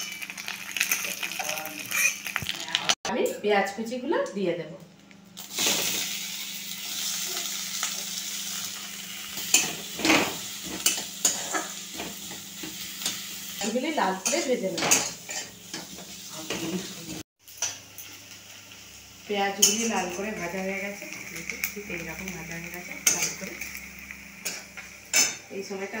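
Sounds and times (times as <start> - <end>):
onions sizzling in hot oil: 0.0 - 3.0, 5.4 - 26.0.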